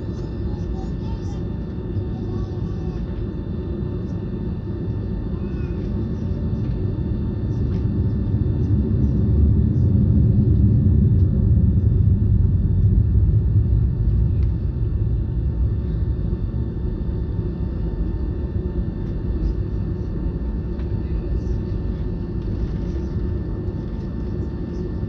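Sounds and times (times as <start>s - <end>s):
faint steady whining tones: 0.0s - 25.0s
jet airliner cabin rumble: 0.0s - 25.0s.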